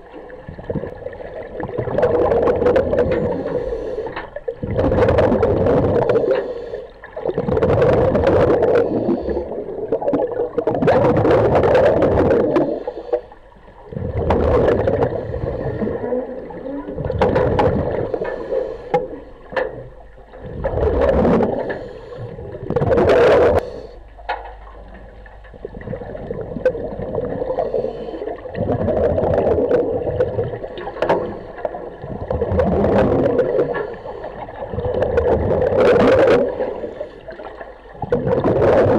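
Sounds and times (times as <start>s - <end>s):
diver's exhaled bubbles gurgling: 0.0s - 23.9s, 24.7s - 38.9s.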